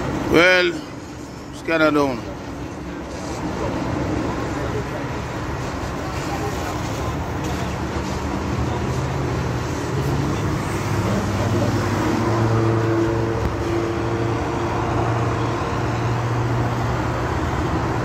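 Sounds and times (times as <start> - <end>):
traffic noise: 0.0 - 18.0
vehicle engine hum: 0.0 - 18.0.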